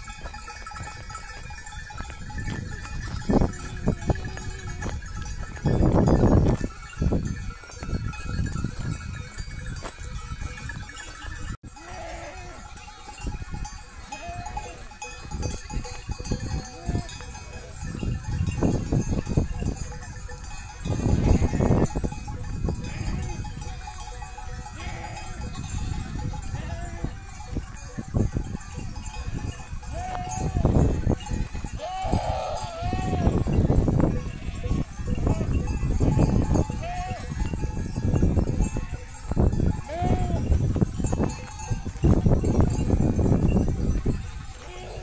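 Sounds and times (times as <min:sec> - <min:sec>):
livestock bells clinking: 0:00.0 - 0:45.0
sheep and goats bleating: 0:01.1 - 0:06.2, 0:07.8 - 0:18.0, 0:20.4 - 0:45.0.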